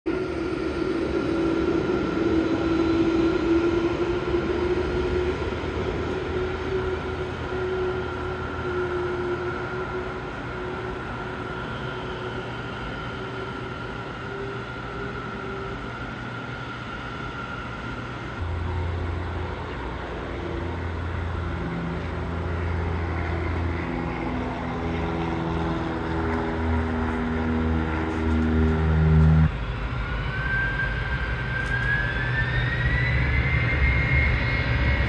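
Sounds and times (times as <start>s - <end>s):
jet engines idling whine: 0.1s - 35.0s
propeller plane drone: 0.1s - 35.0s.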